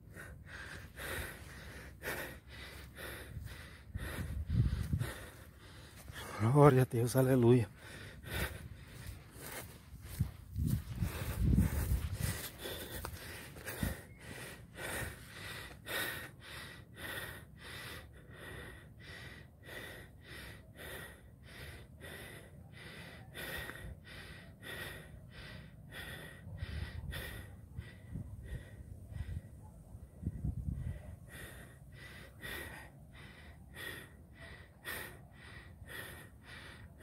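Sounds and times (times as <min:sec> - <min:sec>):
low wind rumble: 0:00.0 - 0:06.4, 0:07.6 - 0:37.0
person panting hard: 0:00.0 - 0:37.0.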